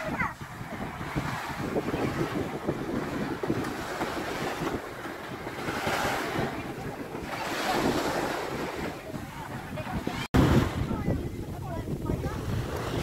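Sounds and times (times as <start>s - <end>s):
waves washing on sandy shore: 0.0s - 13.0s
wind buffeting microphone: 0.0s - 13.0s.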